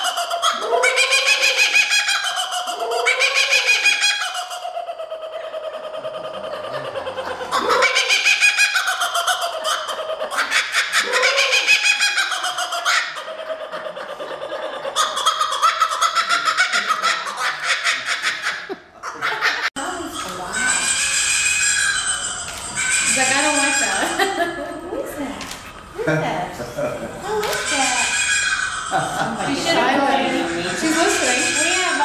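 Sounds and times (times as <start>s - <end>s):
kookaburra laughing call: 0.0s - 24.8s, 27.2s - 32.0s.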